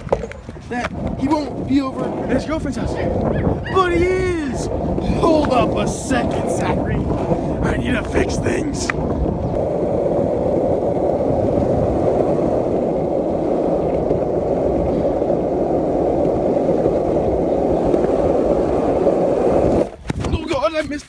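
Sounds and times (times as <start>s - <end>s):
skateboard wheels rolling on asphalt: 0.0s - 21.0s.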